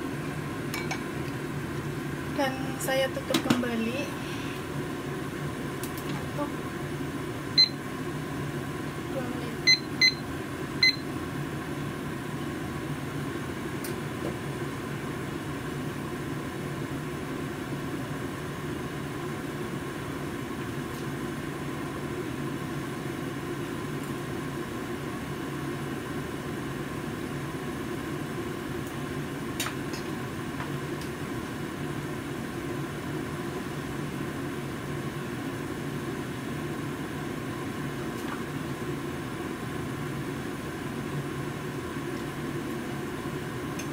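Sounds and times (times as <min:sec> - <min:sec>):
gas burner hum and hiss: 0:00.0 - 0:43.9.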